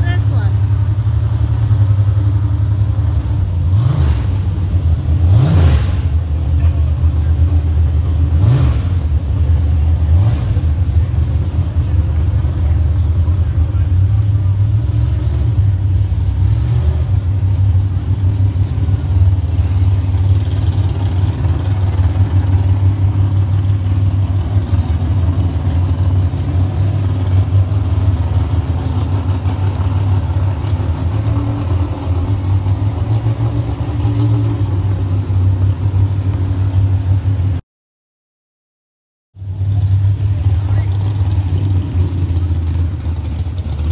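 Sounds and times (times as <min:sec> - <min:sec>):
vehicle engine idling: 0:00.0 - 0:37.6, 0:39.4 - 0:43.9.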